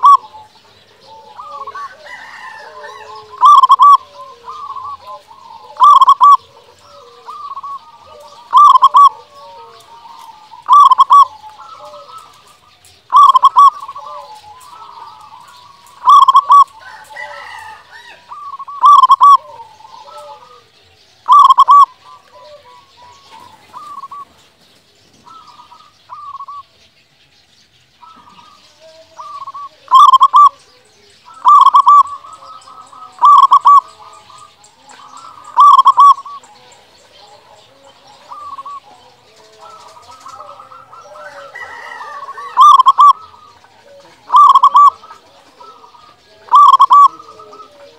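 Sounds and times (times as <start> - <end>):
dove cooing: 0.0 - 26.7, 28.0 - 47.9
soft dove notes: 0.0 - 26.8, 28.0 - 47.9.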